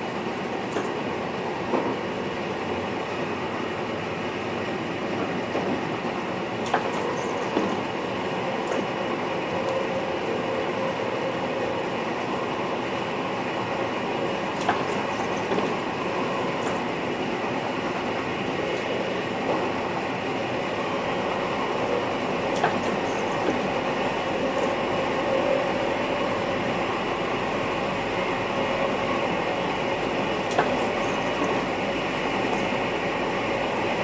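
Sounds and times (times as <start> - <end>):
train cab running noise: 0.0 - 34.0.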